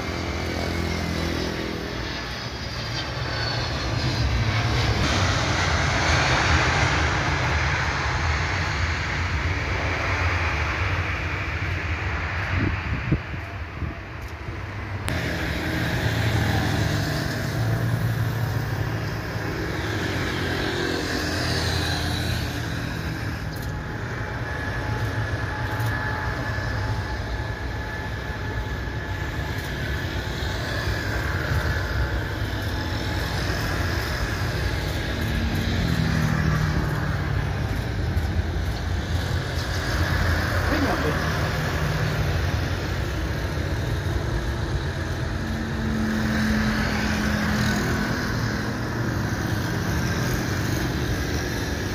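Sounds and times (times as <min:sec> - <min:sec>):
jet engines deep rumble: 0:00.0 - 0:51.9
thin jet whine: 0:00.0 - 0:51.9.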